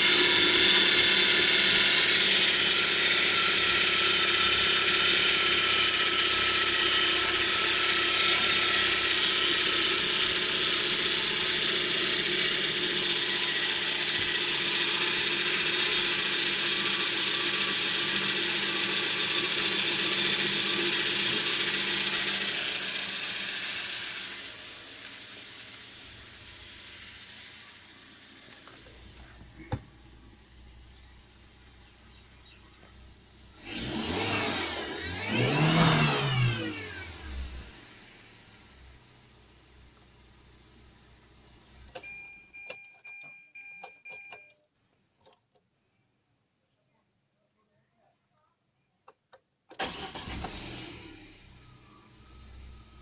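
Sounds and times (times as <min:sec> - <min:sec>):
car mechanical whir with rattle: 0:00.0 - 0:45.6, 0:49.1 - 0:53.0.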